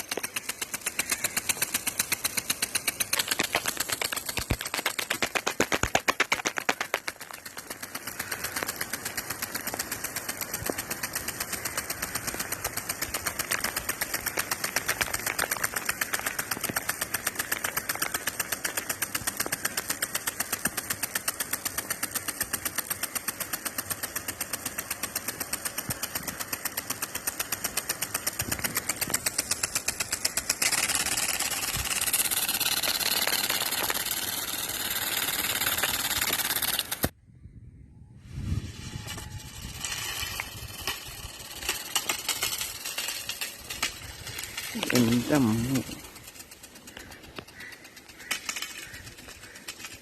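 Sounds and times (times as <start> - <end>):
water spray hiss: 0.0 - 37.1, 39.5 - 49.9
sprinkler arm ticking: 0.0 - 37.2, 38.8 - 50.0.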